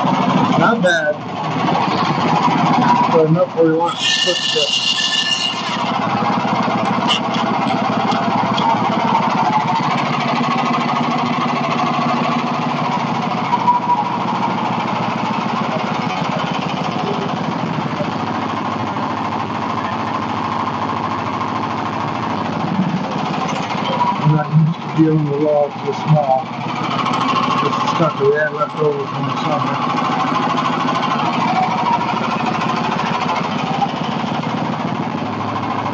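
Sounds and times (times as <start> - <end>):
sawmill engine running: 0.0 - 35.9.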